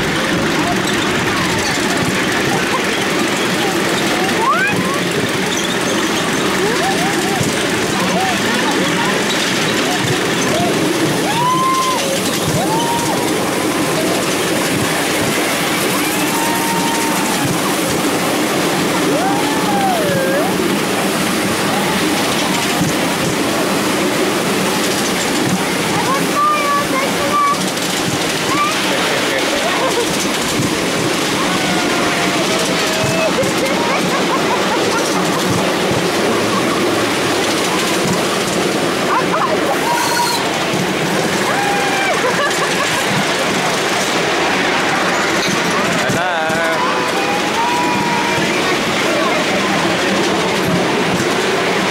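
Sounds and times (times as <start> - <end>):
wheel squeals: 0.0 - 23.4, 24.8 - 51.5
miniature steam train running: 0.0 - 51.9.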